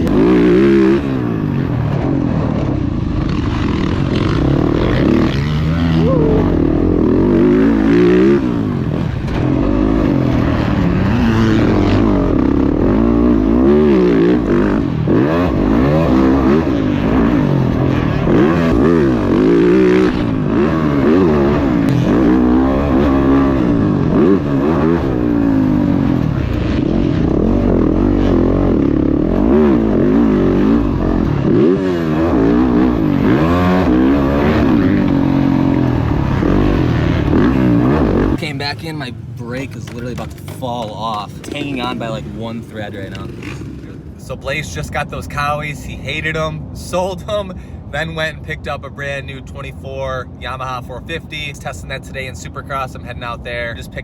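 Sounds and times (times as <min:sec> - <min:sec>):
dirt bike engine revving: 0:00.0 - 0:47.7.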